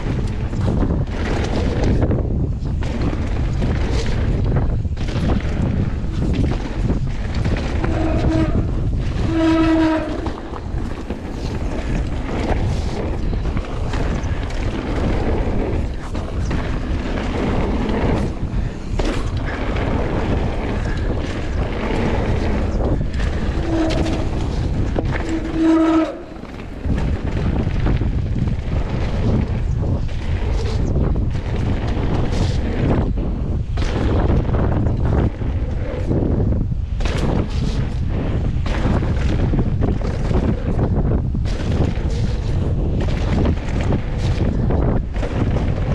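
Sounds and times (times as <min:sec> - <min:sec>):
bike tyres and frame rattling: 0:00.0 - 0:45.9
wind on microphone: 0:00.0 - 0:45.9.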